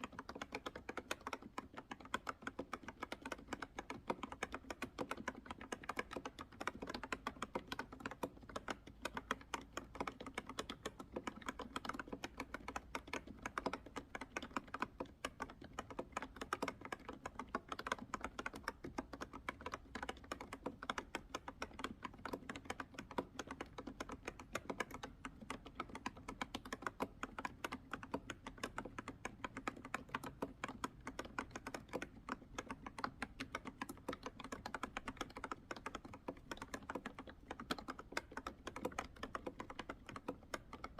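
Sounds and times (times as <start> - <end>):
keyboard typing: 0.0 - 40.9.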